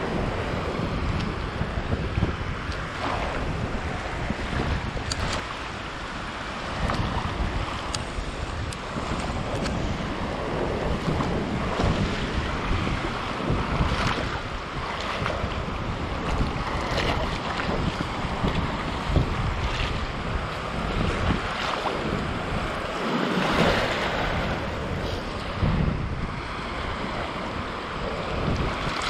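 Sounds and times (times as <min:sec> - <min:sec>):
small waves washing ashore: 0:00.0 - 0:29.0
wind buffeting microphone: 0:00.0 - 0:29.0.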